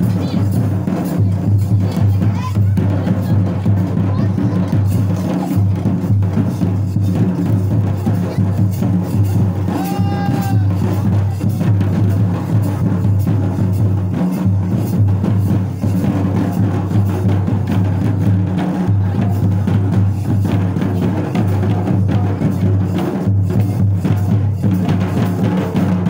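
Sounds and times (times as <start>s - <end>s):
hand drums beating dance rhythm: 0.0s - 26.0s.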